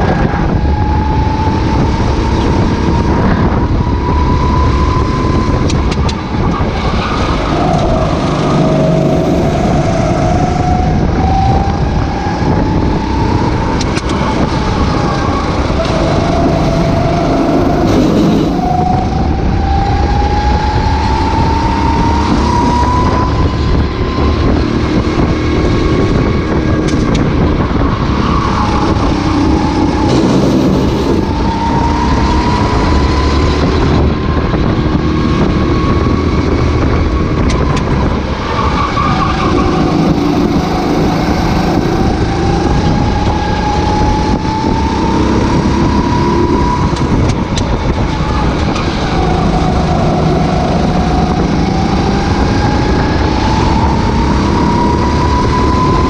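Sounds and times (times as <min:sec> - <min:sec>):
kart engine revving: 0:00.0 - 0:56.0
wind noise on microphone: 0:00.0 - 0:56.0.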